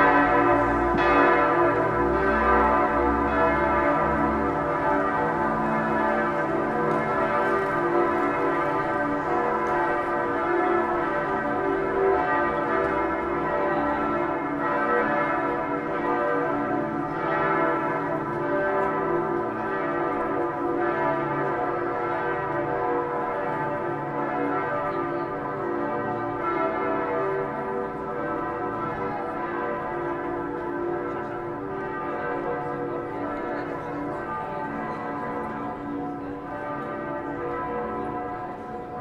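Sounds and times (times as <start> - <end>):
church bells pealing: 0.0 - 39.0.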